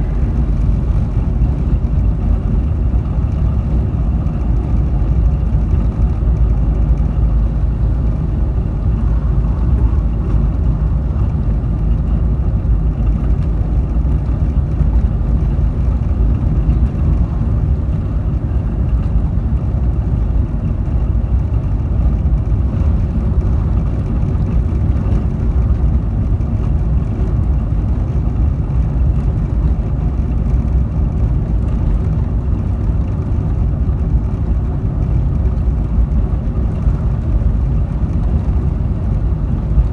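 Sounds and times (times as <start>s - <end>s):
car engine: 0.0s - 39.9s
road rumble: 0.0s - 39.9s.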